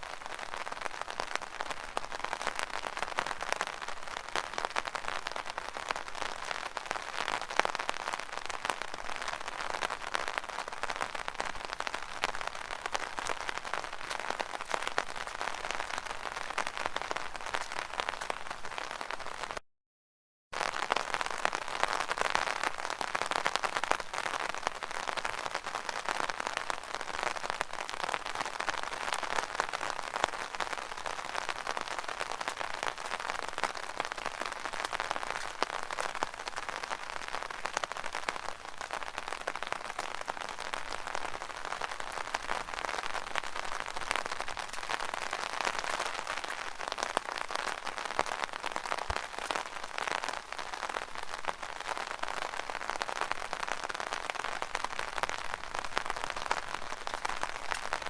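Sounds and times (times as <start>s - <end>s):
rain drumming on umbrella: 0.0s - 19.6s, 20.6s - 58.0s.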